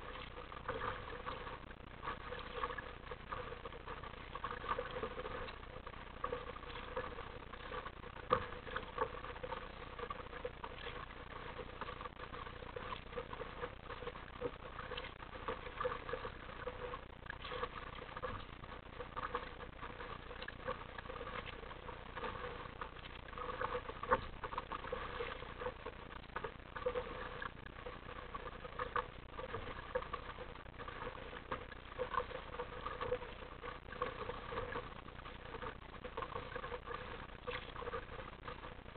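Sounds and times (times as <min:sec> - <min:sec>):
water lapping against kayak hull: 0:00.0 - 0:38.9.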